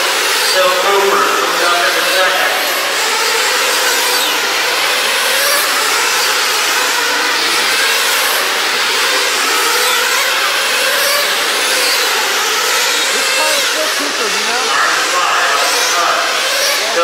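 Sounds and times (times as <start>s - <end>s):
model car engines buzzing at high revs: 0.0s - 17.0s.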